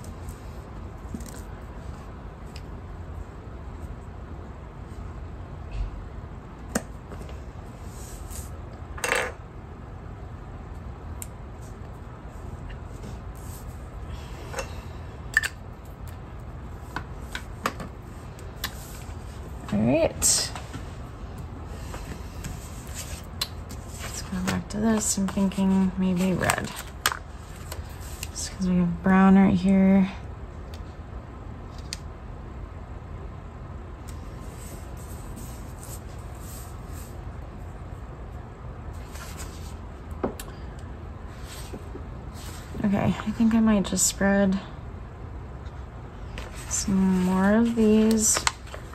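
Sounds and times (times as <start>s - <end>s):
low room hum: 0.0s - 48.9s.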